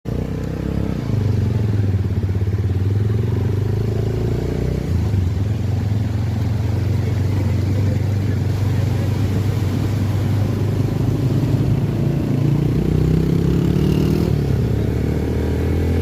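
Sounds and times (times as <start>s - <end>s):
motorcycle engine running: 0.1s - 16.0s.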